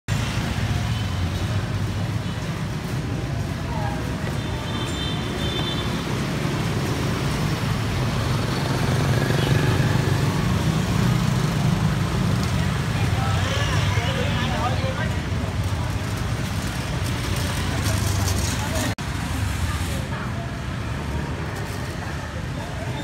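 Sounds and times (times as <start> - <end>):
street traffic rumble: 0.1 - 23.0.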